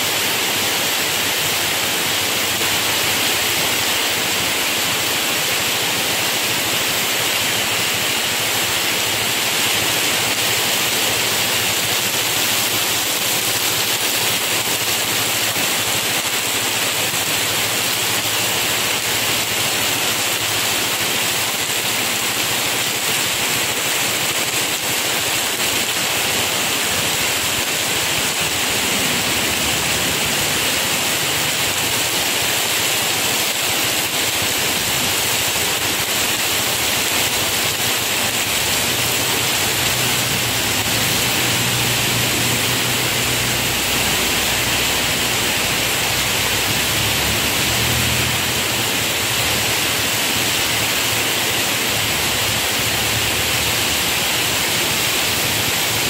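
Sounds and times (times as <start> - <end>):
heavy rain pouring: 0.0 - 56.0
truck driving through water: 0.0 - 56.0.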